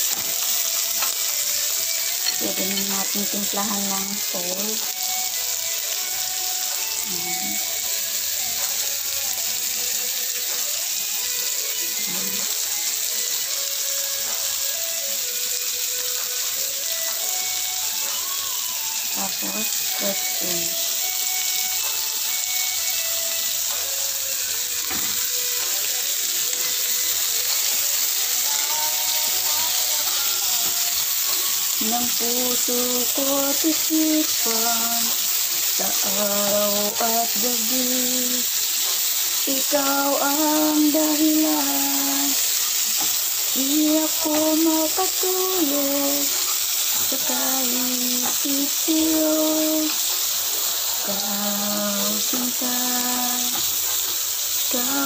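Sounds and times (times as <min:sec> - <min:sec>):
faint song playing: 0:00.0 - 0:55.0
vegetables sizzling in a wok: 0:00.0 - 0:55.0.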